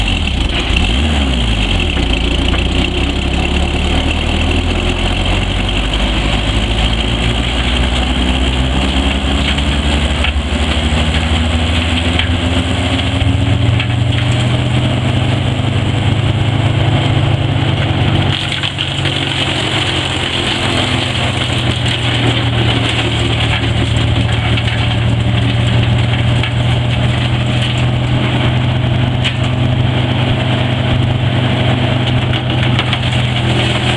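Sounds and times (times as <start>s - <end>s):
wood chipper engine revving: 0.0s - 33.9s.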